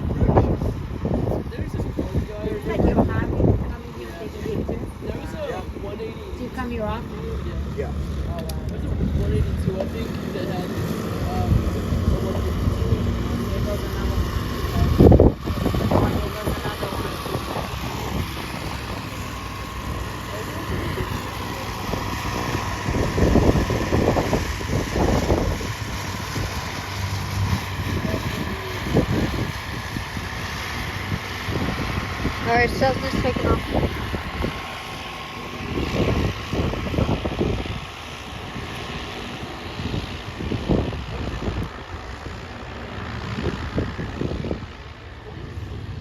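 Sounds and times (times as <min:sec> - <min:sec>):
propeller aircraft engine drone: 0:00.0 - 0:46.0
wind buffeting microphone: 0:00.0 - 0:46.0.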